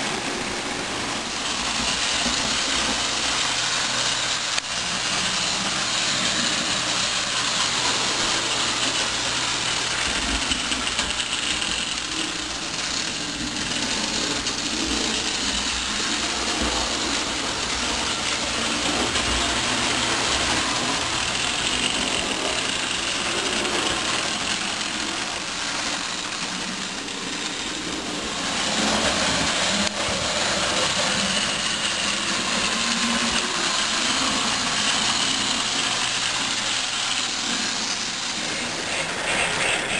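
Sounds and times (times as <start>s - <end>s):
toy train motor whir: 0.0s - 39.9s
wheels rumbling on rails: 0.0s - 39.9s.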